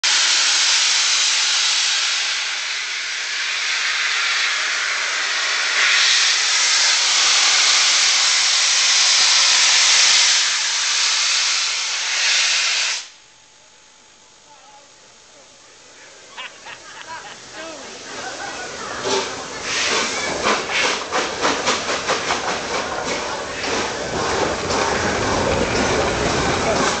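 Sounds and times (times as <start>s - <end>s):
steam hissing from locomotive: 0.0s - 13.2s, 16.0s - 27.0s.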